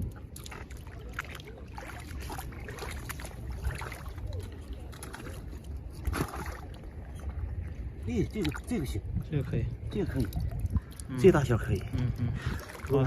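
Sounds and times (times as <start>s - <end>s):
shallow seawater sloshing: 0.0s - 13.0s
water splashes: 0.0s - 13.0s.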